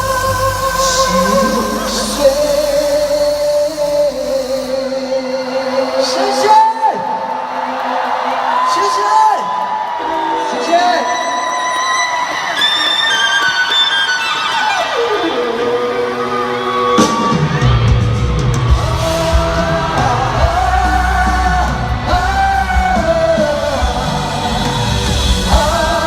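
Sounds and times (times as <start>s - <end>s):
live rock band: 0.0s - 6.4s, 10.0s - 26.0s.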